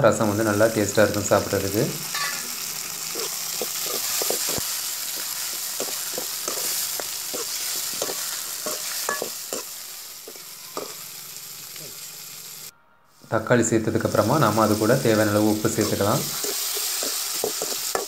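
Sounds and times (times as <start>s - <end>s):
vegetables sizzling in oil: 0.0s - 12.7s, 13.8s - 18.0s.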